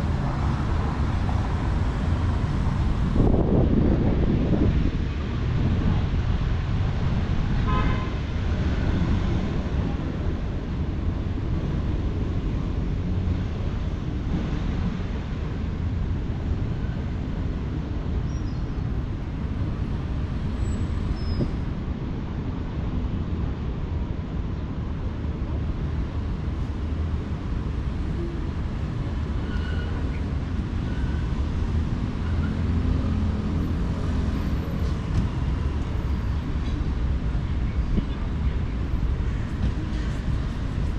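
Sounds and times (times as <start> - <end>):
city street traffic rumble: 0.0 - 40.9.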